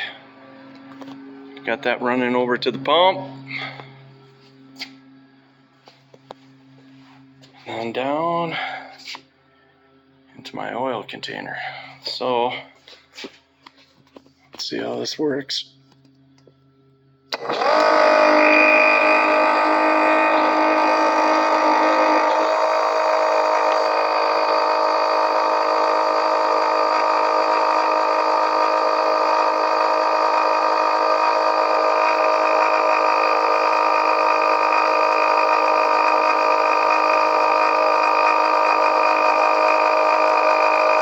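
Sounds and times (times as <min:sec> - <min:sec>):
pump motor whine: 0:00.0 - 0:41.0.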